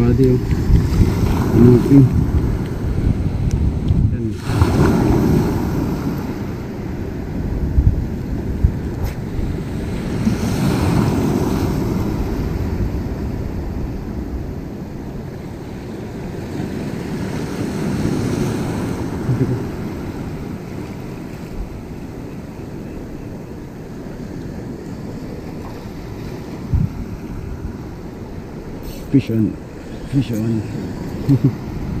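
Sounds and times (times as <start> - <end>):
sea waves washing ashore: 0.0 - 32.0
wind rumbling on microphone: 0.0 - 32.0.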